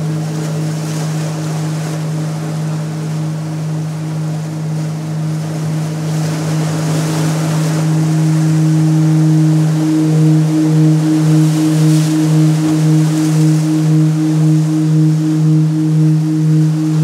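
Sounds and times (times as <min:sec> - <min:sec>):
gong resonating: 0:00.0 - 0:17.0.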